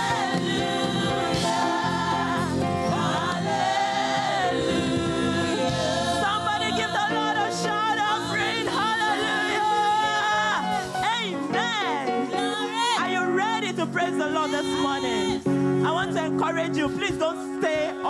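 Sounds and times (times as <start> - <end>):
choir singing: 0.0 - 15.6
instrumental backing: 0.0 - 18.0.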